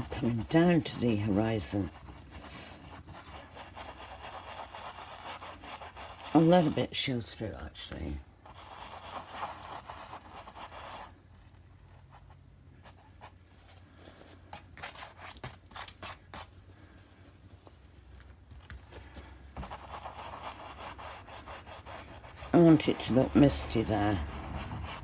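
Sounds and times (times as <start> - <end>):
paintbrush scrubbing on canvas: 0.0 - 7.2, 8.4 - 17.2, 19.6 - 25.0.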